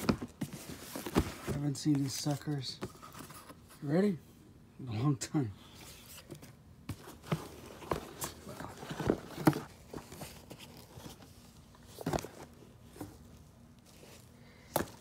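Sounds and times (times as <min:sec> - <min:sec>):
cardboard rustling and scraping: 0:00.0 - 0:03.8, 0:05.8 - 0:15.0.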